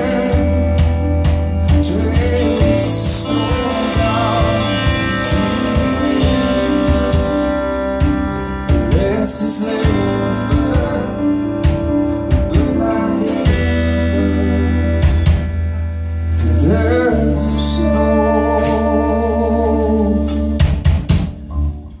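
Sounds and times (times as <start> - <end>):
digital piano: 0.0 - 22.0
drum kit: 0.0 - 22.0
electric bass: 0.0 - 22.0
electric guitar: 0.0 - 22.0.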